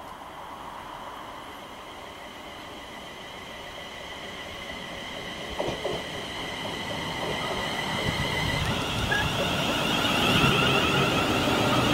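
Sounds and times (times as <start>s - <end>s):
electric train approaching: 0.0s - 11.9s.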